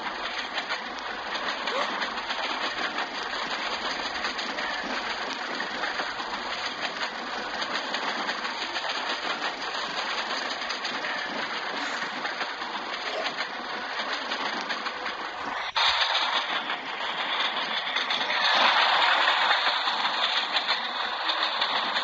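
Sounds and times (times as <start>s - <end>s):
busy railway platform din: 0.0s - 22.0s.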